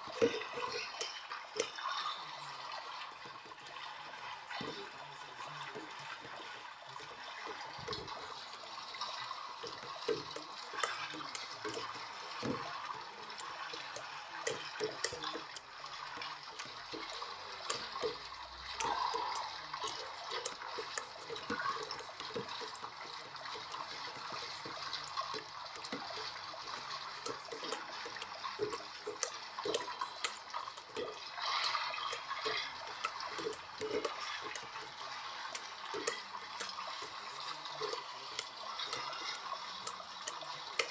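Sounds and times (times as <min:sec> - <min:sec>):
water splashing in washing machine: 0:00.0 - 0:40.9.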